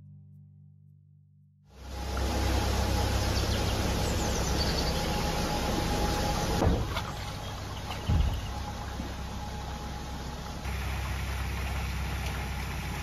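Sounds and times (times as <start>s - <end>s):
boat engine low rumble: 1.7s - 13.0s.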